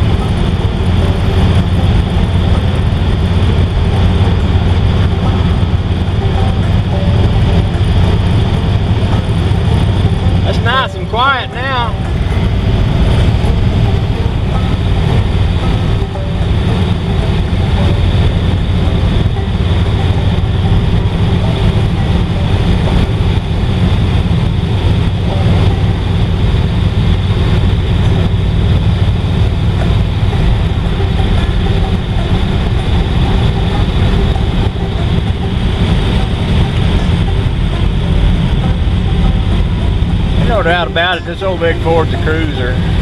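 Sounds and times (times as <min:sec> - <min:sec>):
car engine low rumble: 0:00.0 - 0:43.0
road noise: 0:00.0 - 0:43.0.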